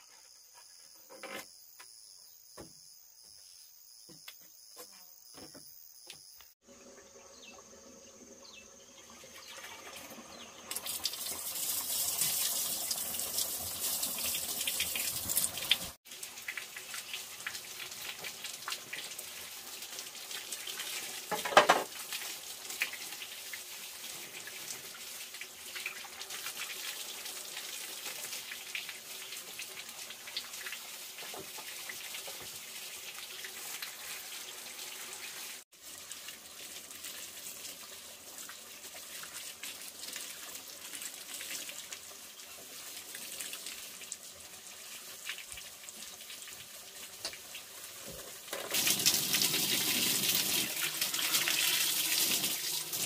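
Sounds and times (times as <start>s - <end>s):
water pouring and splashing: 9.0s - 53.0s.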